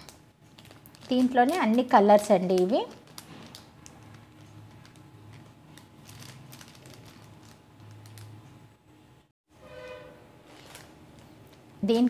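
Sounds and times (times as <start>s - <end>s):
plastic packaging clicks and crinkles: 0.0s - 8.6s, 10.5s - 12.0s.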